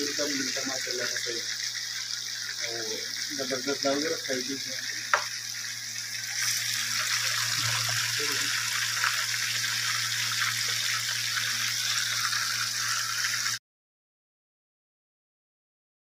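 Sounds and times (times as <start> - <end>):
fish deep-frying in oil: 0.0 - 13.6.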